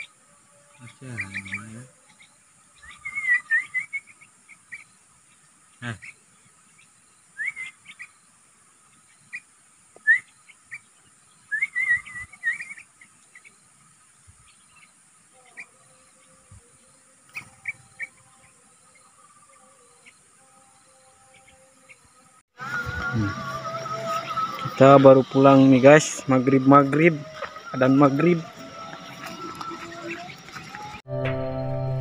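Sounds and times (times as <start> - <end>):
bird chirping: 0.7 - 22.3, 24.0 - 31.0.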